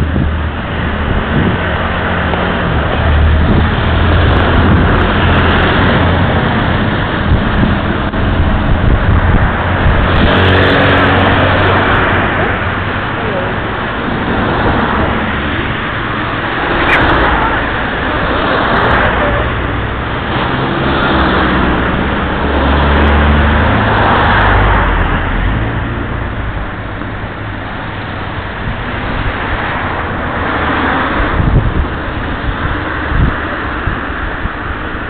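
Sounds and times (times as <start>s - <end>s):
cars passing: 0.0s - 35.0s
heavy vehicle engine rumble: 0.0s - 35.0s.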